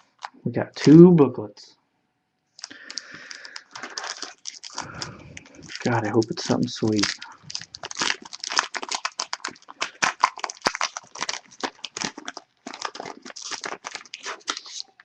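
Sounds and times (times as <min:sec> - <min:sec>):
card pack wrapper tearing: 0:02.6 - 0:15.0.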